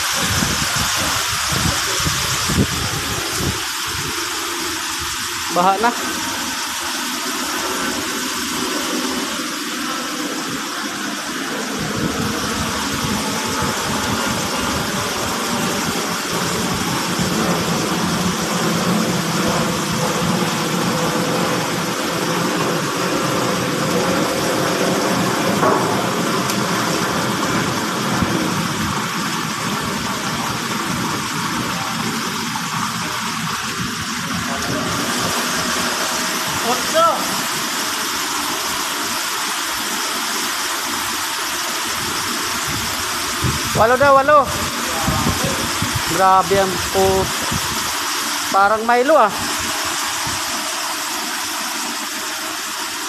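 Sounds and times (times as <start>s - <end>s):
water gushing from pipe: 0.0s - 53.0s.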